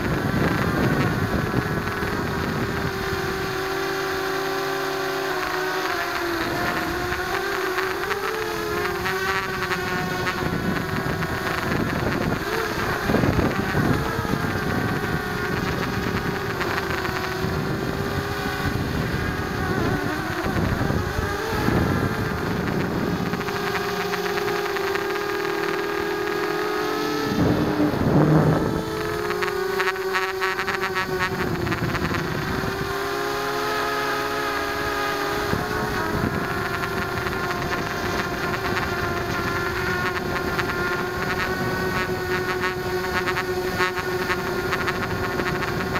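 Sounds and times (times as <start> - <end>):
wind noise gusts: 0.0 - 4.3, 6.4 - 26.5, 27.1 - 33.0, 34.6 - 45.9
quadcopter motors whining: 0.0 - 45.9.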